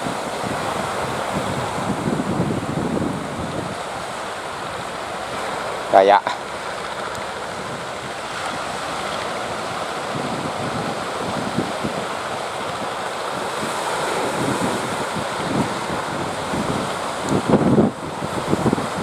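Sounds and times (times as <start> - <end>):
strong wind buffeting microphone: 0.0 - 19.0
surf rushing: 0.0 - 19.0.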